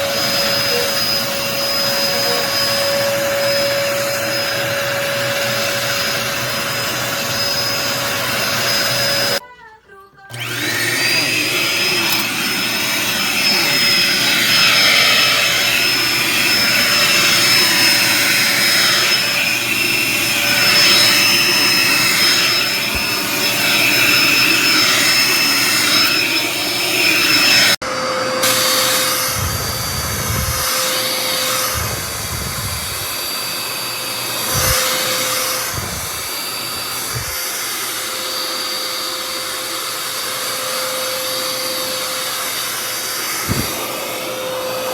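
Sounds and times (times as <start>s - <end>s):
vacuum cleaner whining: 0.0s - 9.4s, 10.2s - 44.9s.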